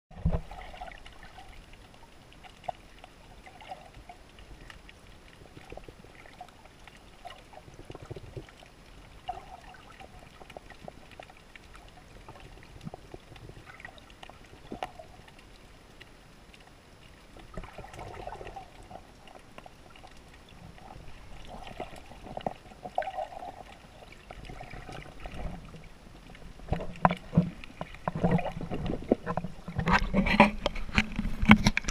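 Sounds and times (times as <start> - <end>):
muffled underwater wash: 0.1 - 31.9.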